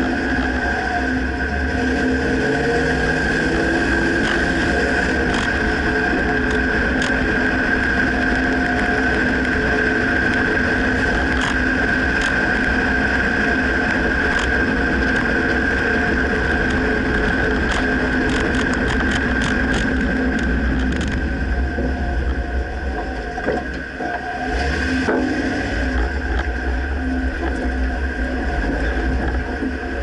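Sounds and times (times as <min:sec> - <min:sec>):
pickup truck engine running: 0:00.0 - 0:30.0.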